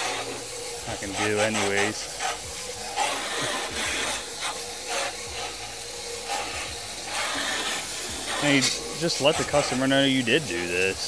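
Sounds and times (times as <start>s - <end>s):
water jet hissing on metal blades: 0.0s - 11.0s.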